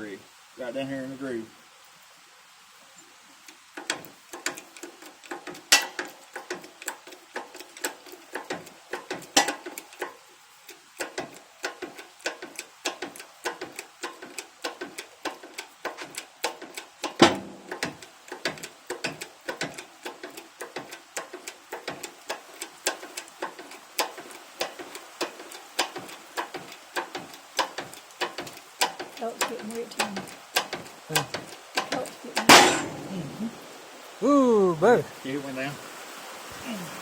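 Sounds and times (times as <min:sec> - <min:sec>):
rain drops on hard surface: 0:00.0 - 0:37.0.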